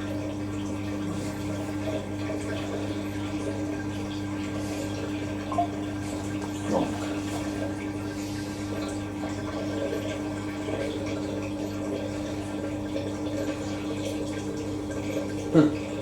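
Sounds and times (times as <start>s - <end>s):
washing machine low hum: 0.0s - 16.0s
water running through washing machine: 0.0s - 16.0s.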